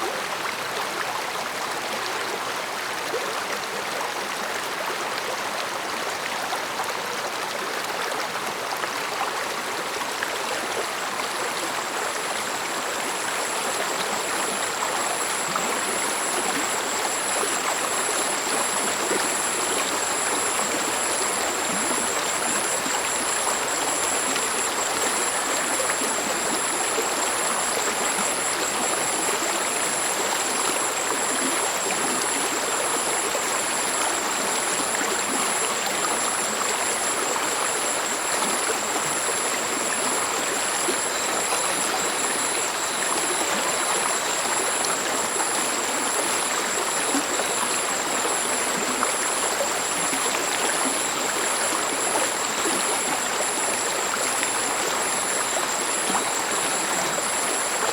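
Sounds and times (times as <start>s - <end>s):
stream flowing over rocks: 0.0s - 57.9s.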